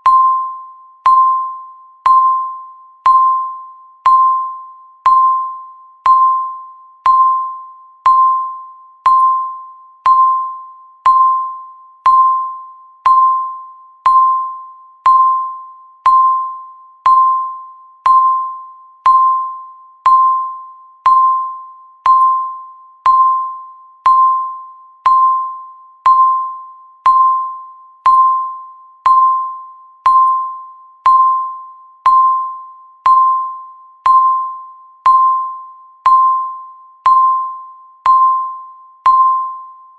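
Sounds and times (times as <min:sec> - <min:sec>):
electronic timer ping: 0:00.0 - 0:39.9.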